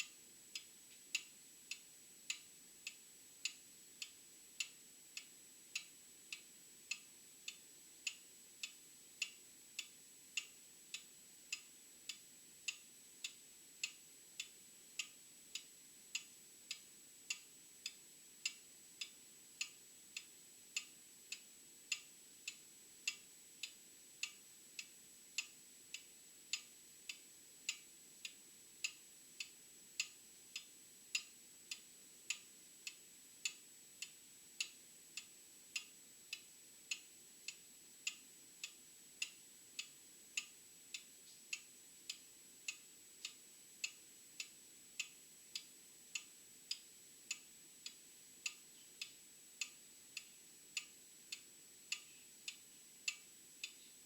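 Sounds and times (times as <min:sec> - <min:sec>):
mechanical clock ticking: 0:00.0 - 0:53.8.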